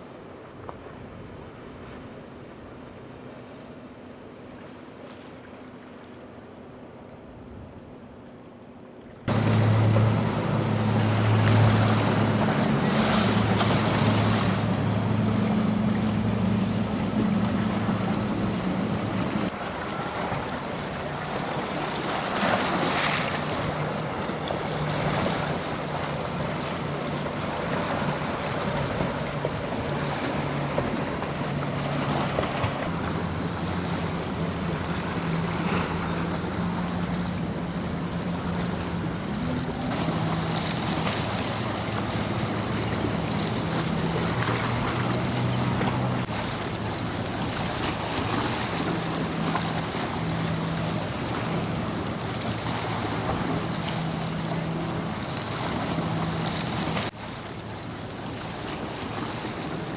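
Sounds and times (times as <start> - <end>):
boat engines droning: 0.0 - 59.9
surf washing: 9.2 - 59.9.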